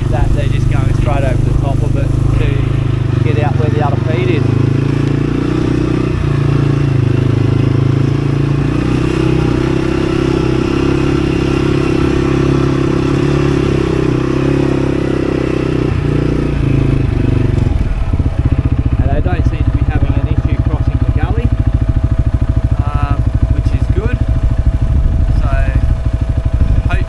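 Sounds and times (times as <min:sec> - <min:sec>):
vehicle engine running at low revs: 0:00.0 - 0:27.0.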